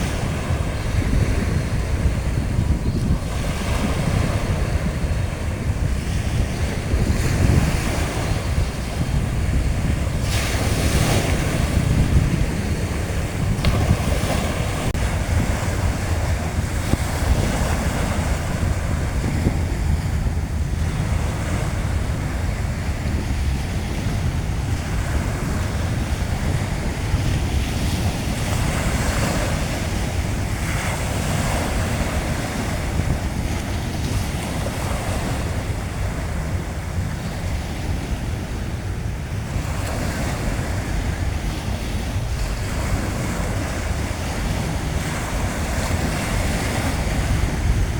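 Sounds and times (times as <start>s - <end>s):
sea waves washing onto beach: 0.0s - 47.9s
wind buffeting microphone: 0.0s - 47.9s.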